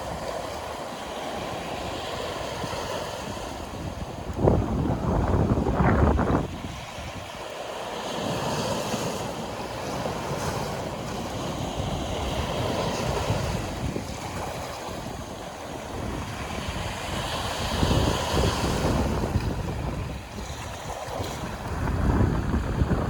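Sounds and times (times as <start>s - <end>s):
wind buffeting microphone: 0.0s - 7.5s, 8.1s - 23.0s
sea surf washing ashore: 0.0s - 23.0s.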